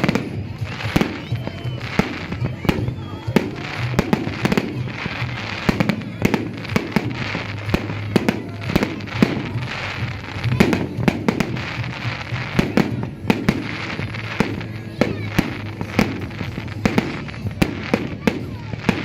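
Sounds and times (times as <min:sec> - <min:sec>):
background noise: 0:00.0 - 0:19.0
fireworks bangs: 0:00.0 - 0:19.0.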